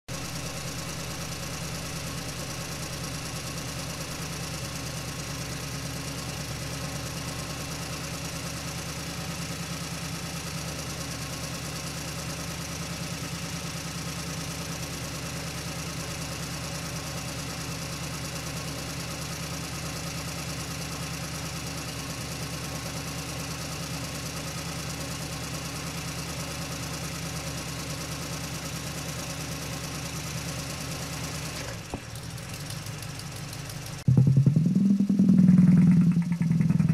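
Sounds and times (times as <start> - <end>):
engine idling with fast knock: 0.1 - 36.9.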